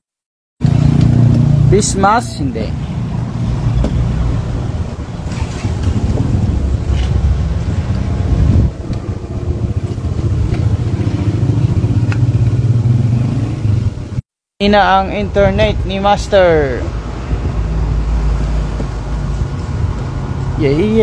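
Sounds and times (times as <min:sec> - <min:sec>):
loud steady low rumble: 0:00.6 - 0:20.0.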